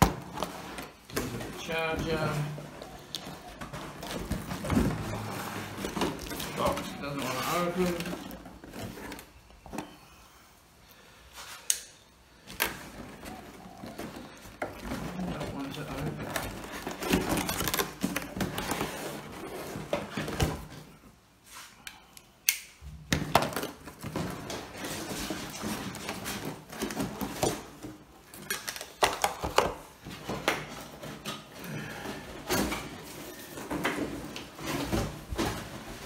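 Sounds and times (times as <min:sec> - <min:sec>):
cardboard rustling and scraping: 0:00.0 - 0:10.1, 0:12.3 - 0:21.7, 0:23.5 - 0:28.4, 0:29.8 - 0:36.0.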